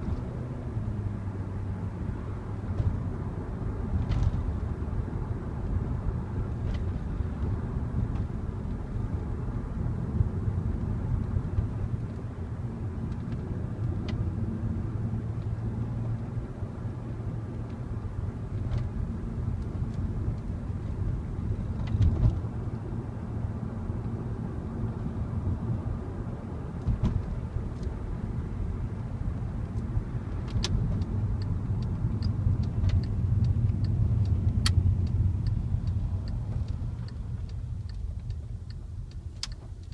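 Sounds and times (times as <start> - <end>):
car engine drone: 0.0 - 39.9
road noise: 0.0 - 39.9.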